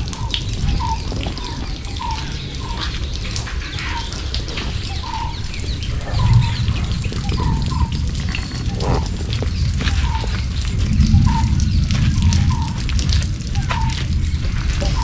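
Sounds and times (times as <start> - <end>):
bird calls and chirps: 0.0 - 15.0
low rumble: 0.0 - 15.0.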